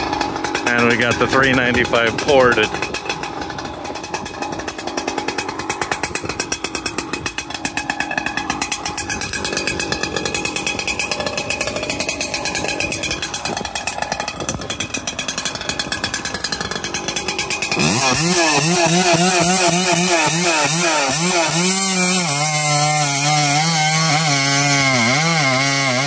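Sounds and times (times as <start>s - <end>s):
chainsaw idling: 0.0s - 26.0s.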